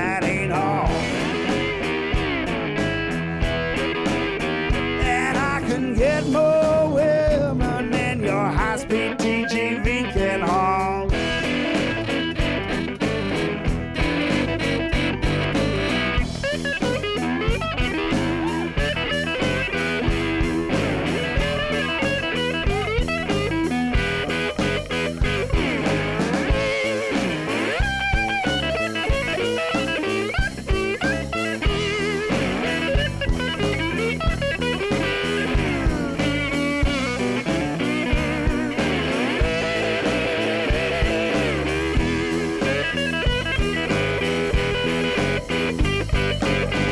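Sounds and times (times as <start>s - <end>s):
blues guitar lead lines: 0.0s - 46.9s
steady beat: 0.0s - 46.9s.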